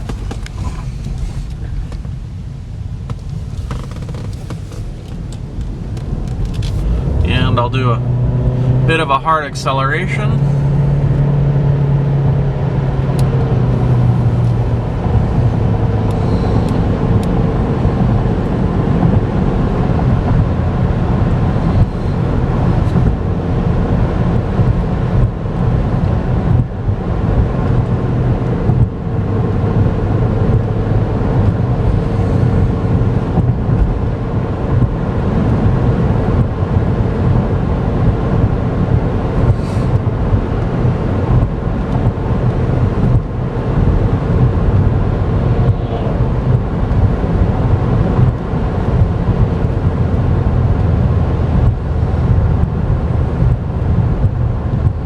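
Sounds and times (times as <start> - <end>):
road and tyre noise: 0.0 - 55.0
car accelerating hard: 3.4 - 55.0.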